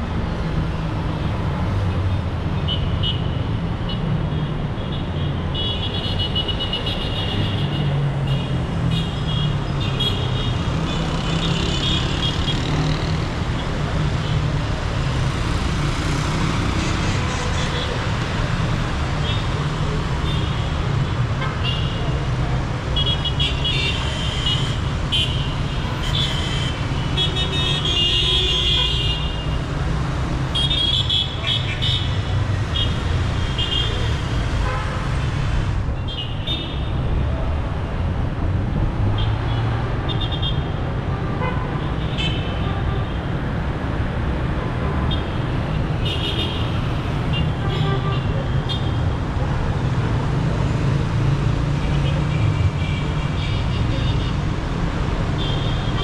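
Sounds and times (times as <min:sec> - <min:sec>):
traffic engines rumbling: 0:00.0 - 0:56.0.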